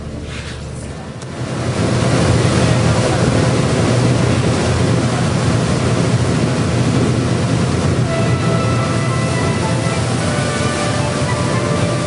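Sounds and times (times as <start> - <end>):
boat engine droning: 0.0 - 12.0
water rushing along hull: 0.0 - 12.0
wind buffeting microphone: 0.8 - 12.0.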